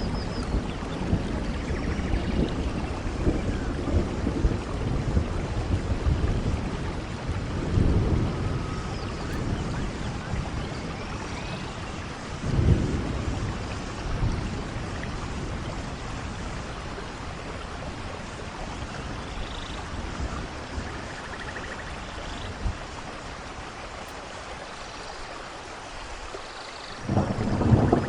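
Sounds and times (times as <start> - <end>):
thunder rumbling: 0.0 - 24.4, 27.0 - 28.0
steady rainfall: 0.0 - 28.0.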